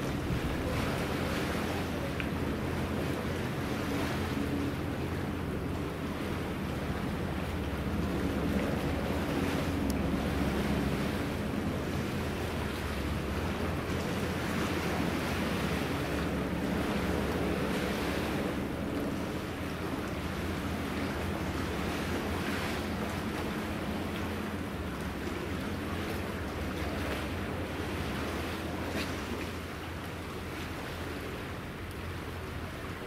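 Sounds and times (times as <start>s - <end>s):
hovercraft engines rushing: 0.0s - 33.0s.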